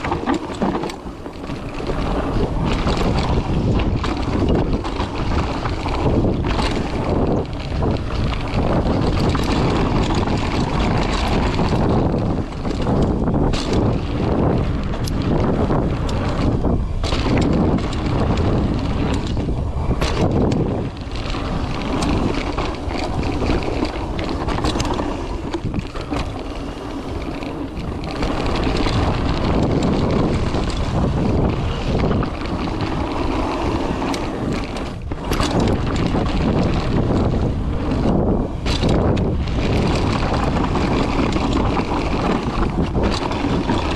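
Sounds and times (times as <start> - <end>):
bike clattering over bumps: 0.0 - 43.9
tyres rolling over gravel: 0.0 - 43.9
wind rushing over microphone: 0.0 - 43.9.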